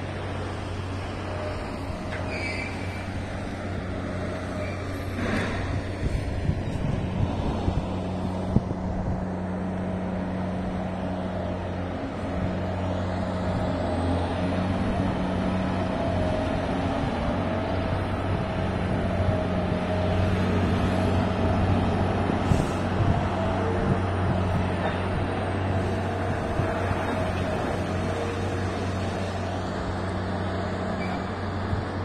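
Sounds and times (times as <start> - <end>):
crane diesel engine running: 0.0 - 32.0.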